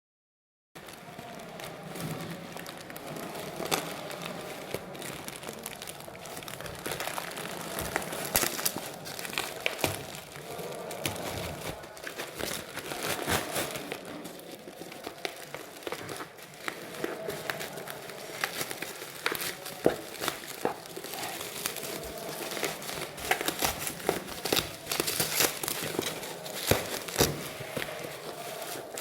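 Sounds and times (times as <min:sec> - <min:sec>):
plastic packaging crinkling: 0:00.8 - 0:29.0.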